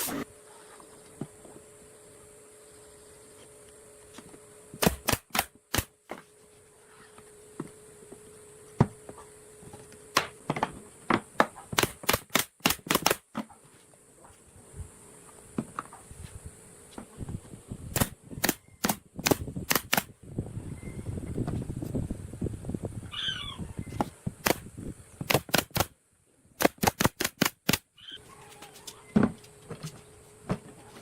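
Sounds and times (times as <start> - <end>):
faint steady hum: 0.0 - 26.6.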